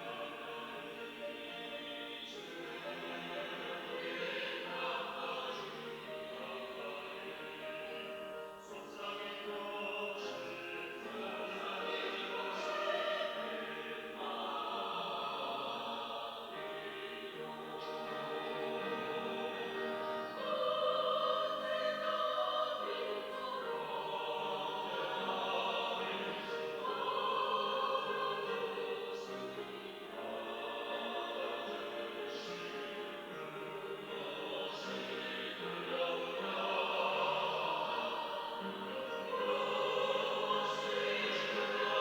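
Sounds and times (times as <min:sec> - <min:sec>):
church choir singing: 0:00.0 - 0:42.0.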